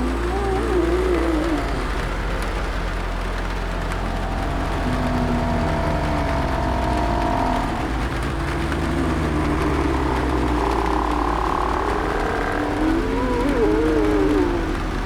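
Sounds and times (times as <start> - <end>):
groaning moans: 0.0 - 15.0
low rumble: 0.0 - 15.0
rain: 0.0 - 15.0.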